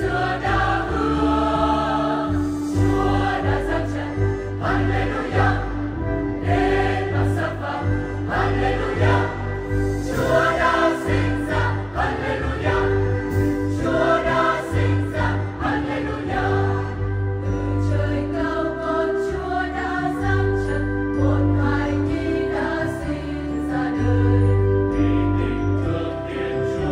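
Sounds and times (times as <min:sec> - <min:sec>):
choir singing a hymn: 0:00.0 - 0:26.9
instrumental accompaniment: 0:00.0 - 0:26.9.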